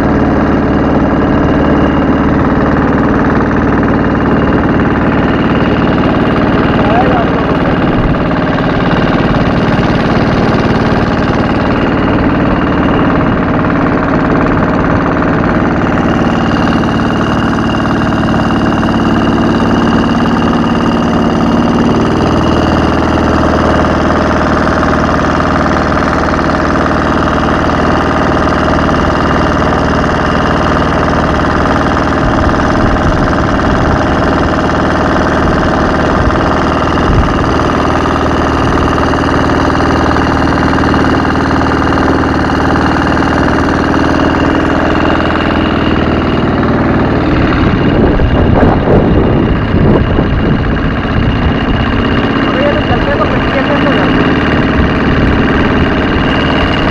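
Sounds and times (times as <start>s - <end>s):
boat engine running: 0.0s - 56.9s.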